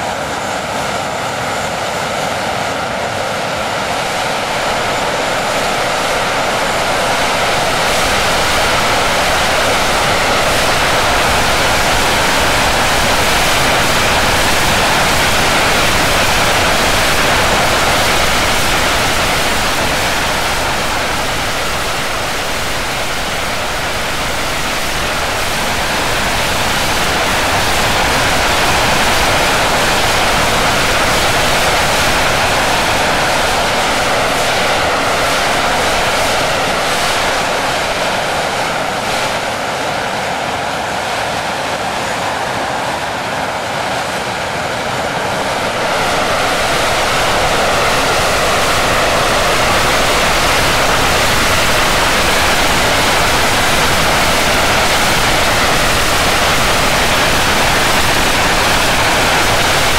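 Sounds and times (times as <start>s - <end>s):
jet engines at high power: 0.0s - 59.9s.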